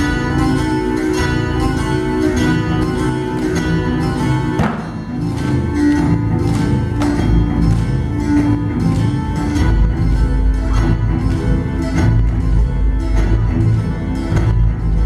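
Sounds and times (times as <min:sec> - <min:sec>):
plucked flamenco guitar: 0:00.0 - 0:15.0.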